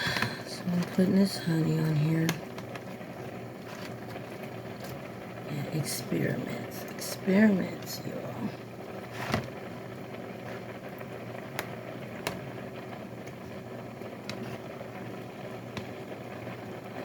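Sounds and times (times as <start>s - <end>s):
appliance humming: 0.0s - 17.0s.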